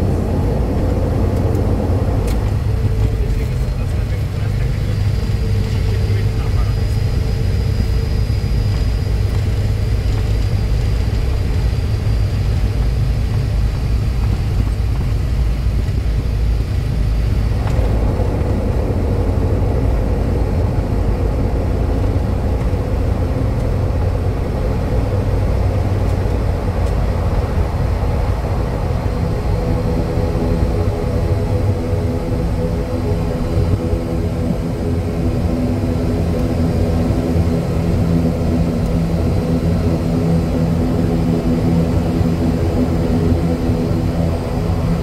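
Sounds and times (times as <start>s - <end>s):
turboprop engines rumbling: 0.0s - 45.0s.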